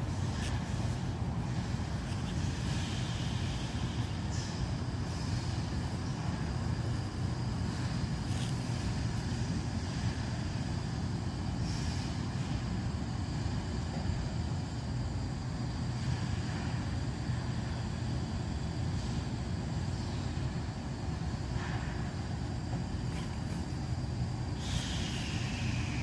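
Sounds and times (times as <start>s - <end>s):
stove flames rumbling: 0.0s - 26.0s.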